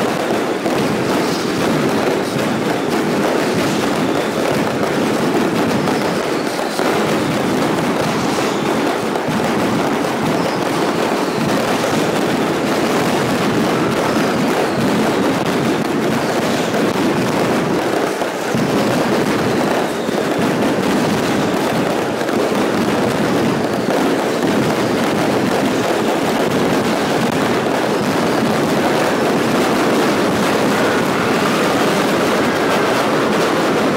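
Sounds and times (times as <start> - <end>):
firecracker explosions: 0.0 - 33.9.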